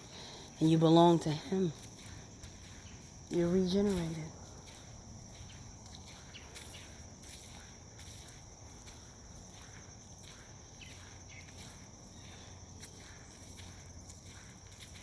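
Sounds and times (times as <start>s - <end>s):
footsteps walking on a path: 0.0s - 15.0s
insects trilling: 0.0s - 15.0s.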